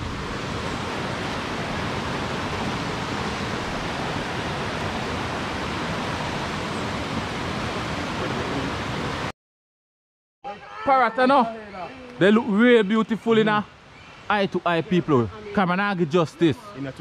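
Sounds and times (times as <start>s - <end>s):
rushing flowing water: 0.0s - 9.3s, 10.5s - 17.0s.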